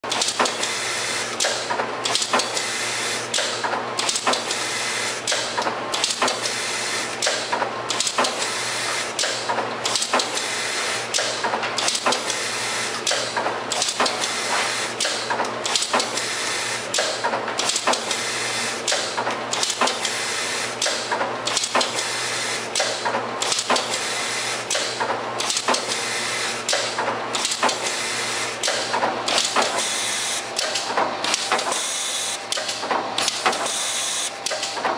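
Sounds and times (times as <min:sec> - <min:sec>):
machine clicks and clatter: 0:00.0 - 0:34.9
machine whirring: 0:00.0 - 0:34.9.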